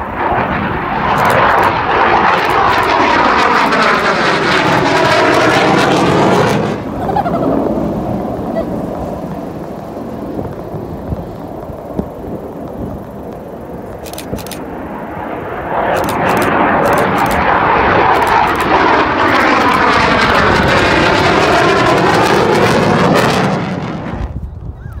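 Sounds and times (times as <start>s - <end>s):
jet engines at high power: 0.0s - 25.0s.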